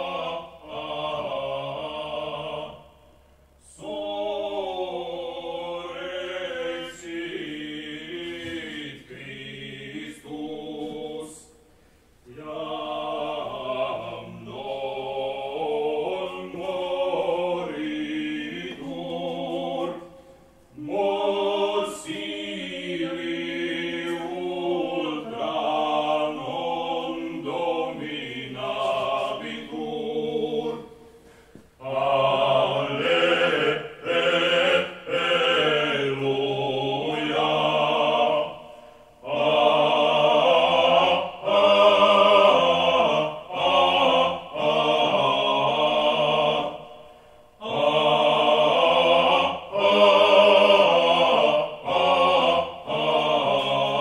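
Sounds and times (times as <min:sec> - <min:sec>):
vocal ensemble singing a cappella: 0:00.0 - 0:54.0.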